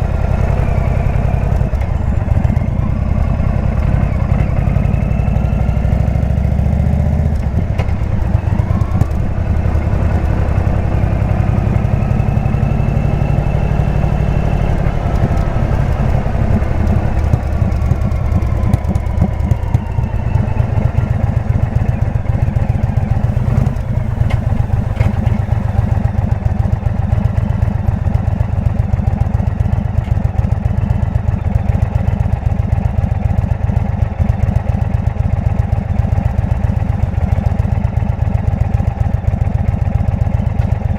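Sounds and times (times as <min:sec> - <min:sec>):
motorcycle engine low pulsing: 0:00.0 - 0:32.5, 0:34.2 - 0:40.9.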